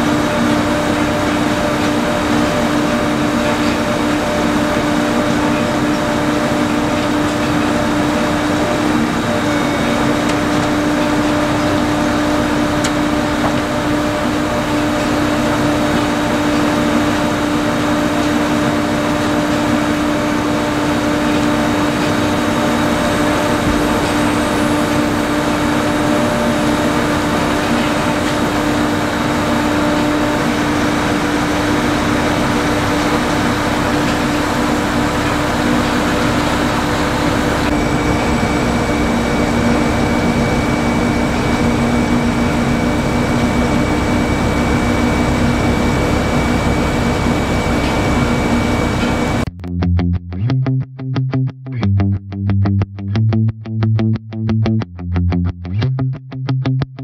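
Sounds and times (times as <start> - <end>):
harvesting machinery engine drone: 0.0 - 49.5
high steady whine: 0.0 - 49.6.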